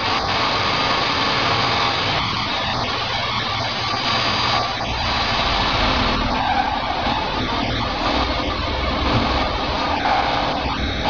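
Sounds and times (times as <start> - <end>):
milling machine cutting metal: 0.0 - 11.0.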